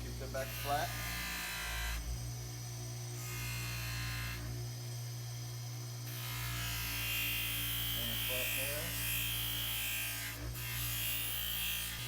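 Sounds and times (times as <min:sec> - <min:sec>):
bench grinder humming: 0:00.0 - 0:12.0.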